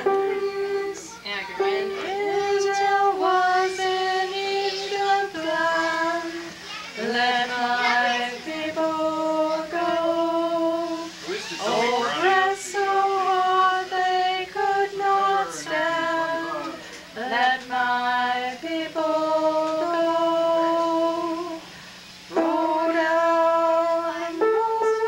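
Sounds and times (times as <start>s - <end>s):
women singing together: 0.0s - 25.0s.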